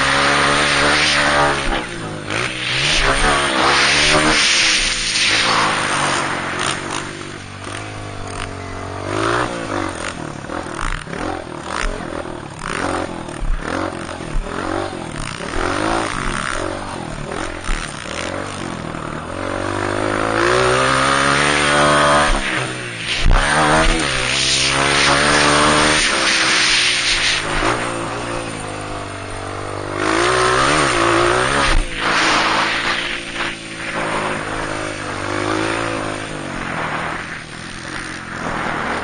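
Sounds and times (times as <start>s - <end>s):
dirt bike engines revving: 0.0s - 39.0s.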